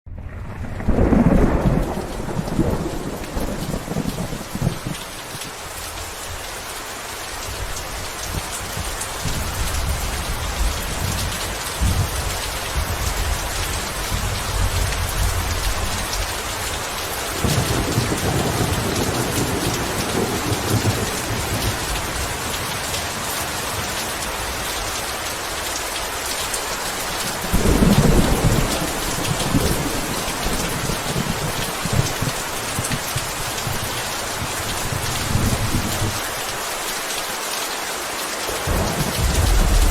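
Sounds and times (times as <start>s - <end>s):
thunder rumbling: 0.1s - 5.5s, 8.4s - 24.7s, 27.2s - 36.3s, 38.5s - 39.9s
heavy rain: 0.1s - 39.9s.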